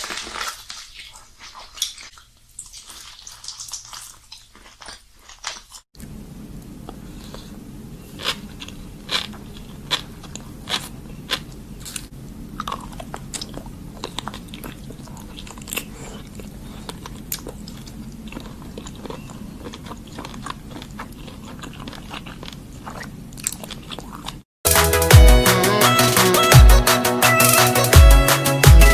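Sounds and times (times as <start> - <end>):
wet biting and chewing: 0.0 - 5.9, 6.9 - 24.4.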